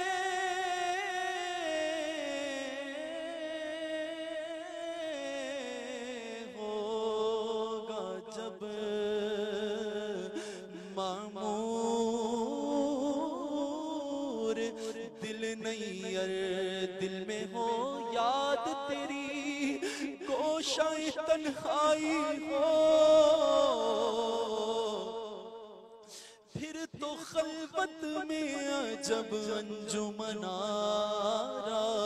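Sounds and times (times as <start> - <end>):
man singing a cappella: 0.0 - 32.0.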